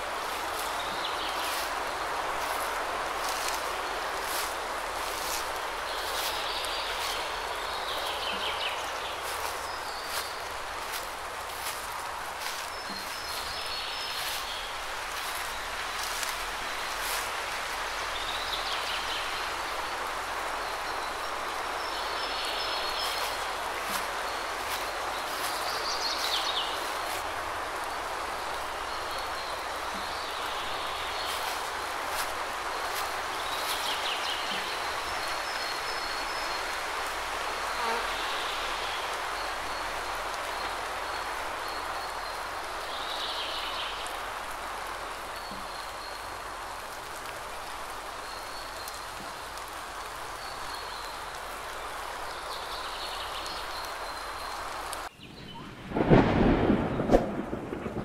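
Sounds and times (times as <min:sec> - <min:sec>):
light rain on foliage: 0:00.0 - 0:58.0.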